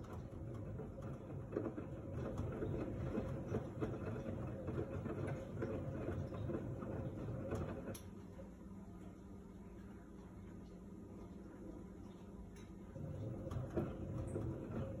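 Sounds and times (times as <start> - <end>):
laundry sloshing in washing machine: 0.0 - 8.6, 9.6 - 15.0
washing machine low hum: 0.0 - 15.0.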